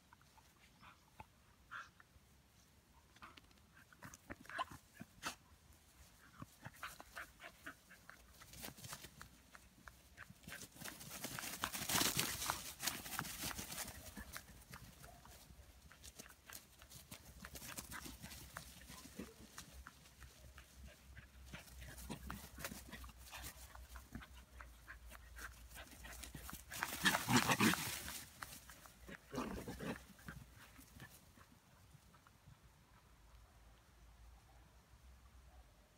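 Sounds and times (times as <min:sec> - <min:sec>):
rustles and patters on grass: 0:00.0 - 0:33.4.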